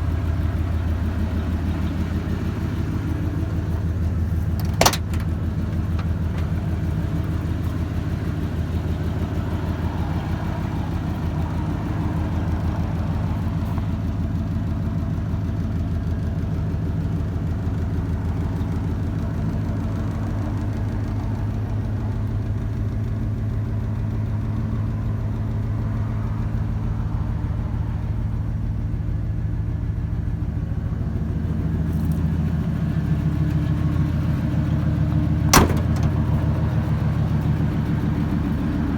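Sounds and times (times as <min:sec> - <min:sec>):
pickup truck engine idling: 0:00.0 - 0:38.9.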